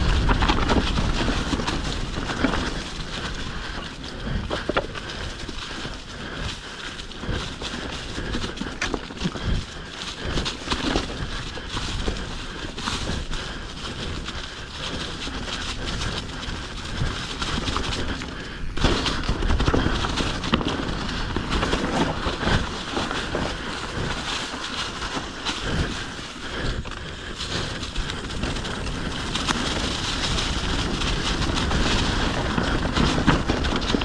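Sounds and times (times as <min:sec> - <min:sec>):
bike tyre and trail noise: 0:00.0 - 0:34.0
wind buffeting the microphone: 0:00.0 - 0:34.0.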